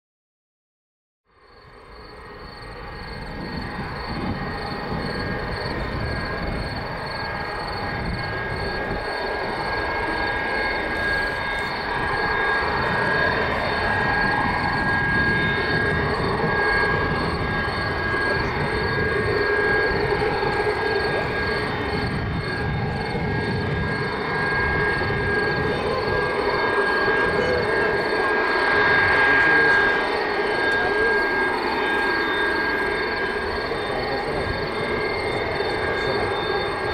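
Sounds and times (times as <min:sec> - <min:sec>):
high engine whine: 0:01.4 - 0:36.9
jet engines roaring: 0:01.7 - 0:36.9.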